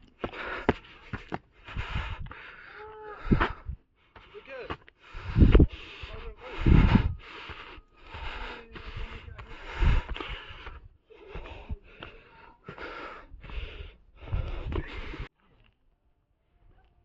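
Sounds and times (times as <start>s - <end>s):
person breathing heavily: 0.0s - 15.3s.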